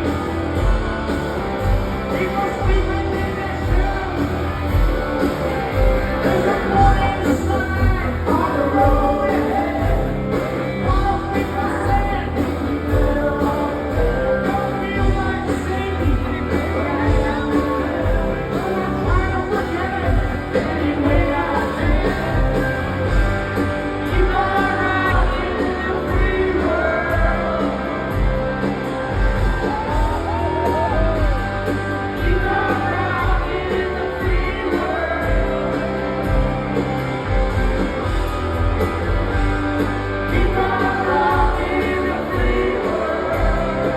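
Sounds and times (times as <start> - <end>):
crowd shouting and whooping: 0.0 - 43.9
live rock band playing: 0.0 - 43.9
person singing: 1.7 - 23.3, 23.9 - 28.7, 29.3 - 36.5, 40.2 - 43.9.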